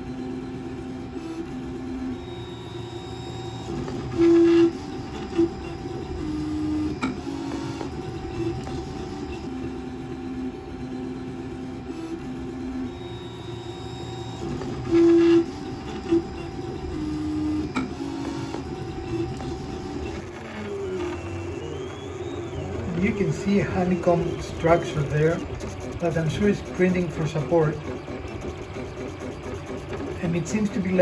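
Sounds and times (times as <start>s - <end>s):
loud printer tone: 0.0s - 31.0s
cooling fans humming: 0.7s - 31.0s
stepper motors whining: 2.1s - 9.7s, 12.9s - 31.0s.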